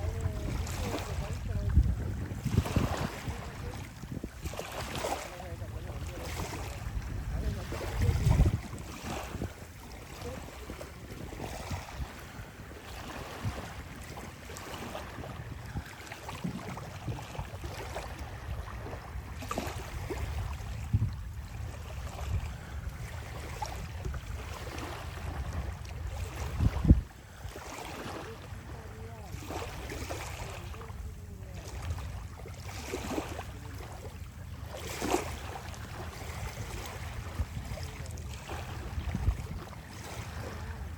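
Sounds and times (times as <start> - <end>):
sea waves on shore: 0.0 - 40.9
wind buffeting microphone: 0.0 - 40.9.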